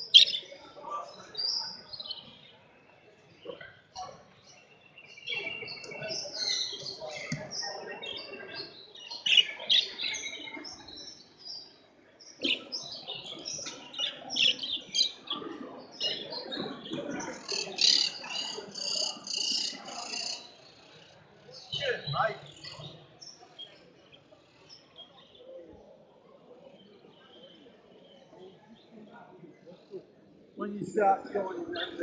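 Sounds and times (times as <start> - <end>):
cage birds chirping: 0.0 - 29.8.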